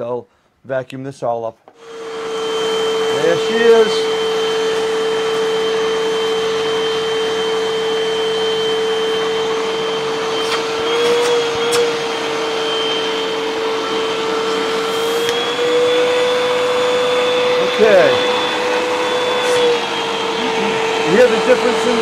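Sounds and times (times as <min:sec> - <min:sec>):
vacuum cleaner whining: 0:01.7 - 0:22.0.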